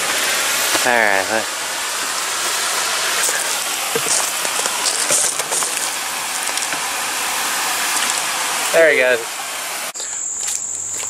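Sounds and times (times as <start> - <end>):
river water rushing: 0.0 - 10.0
sharp splashes: 0.0 - 10.0.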